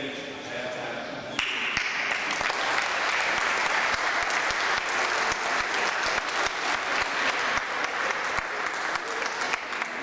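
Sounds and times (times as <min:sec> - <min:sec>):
people clapping: 0:01.4 - 0:10.0.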